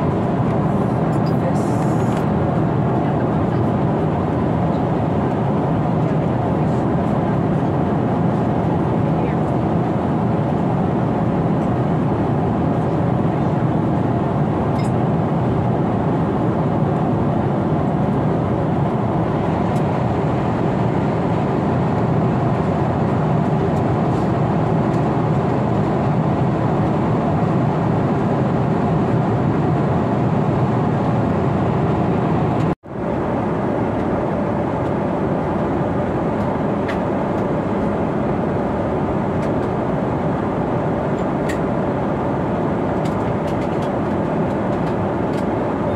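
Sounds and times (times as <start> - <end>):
airplane cabin engine noise: 0.0 - 45.9.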